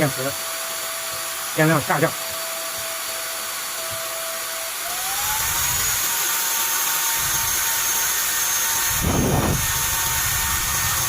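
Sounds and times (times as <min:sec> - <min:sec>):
vacuum cleaner motor whine: 0:00.0 - 0:11.0.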